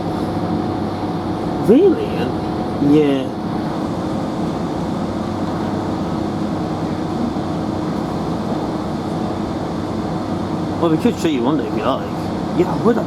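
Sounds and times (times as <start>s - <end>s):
train engine hum: 0.0s - 13.0s
train rumbling: 0.0s - 13.0s.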